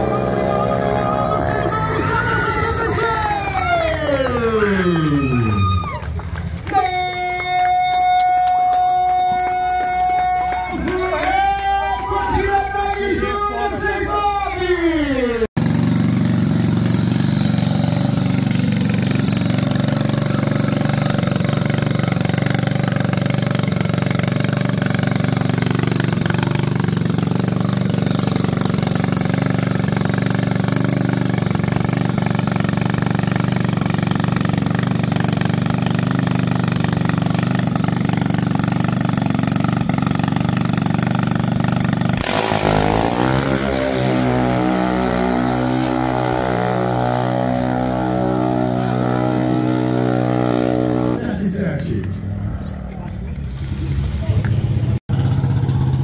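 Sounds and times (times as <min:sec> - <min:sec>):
engine idling: 0:00.0 - 0:13.4, 0:15.6 - 0:50.4.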